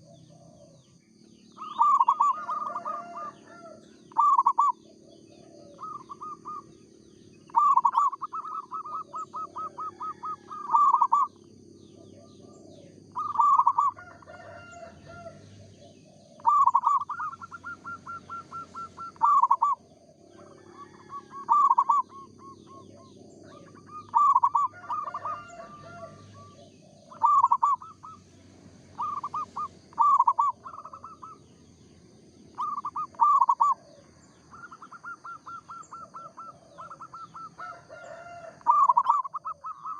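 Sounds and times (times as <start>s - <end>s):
dove cooing: 0.0s - 31.6s, 32.4s - 39.9s.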